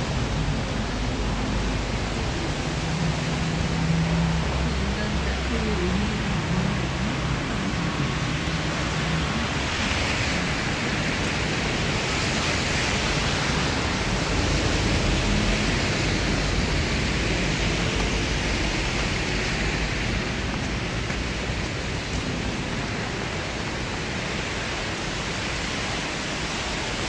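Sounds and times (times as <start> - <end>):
rain falling on street: 0.0 - 27.0.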